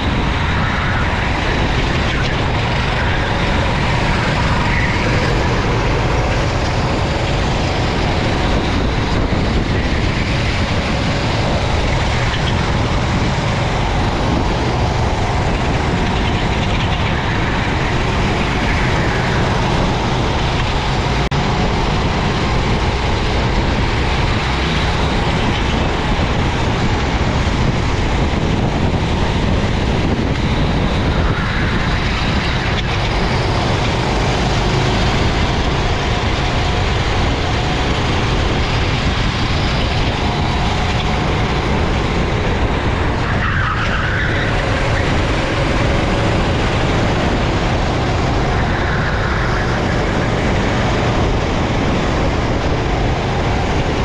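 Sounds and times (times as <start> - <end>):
go-kart engine running: 0.0 - 54.0
rush of noise: 0.0 - 54.0.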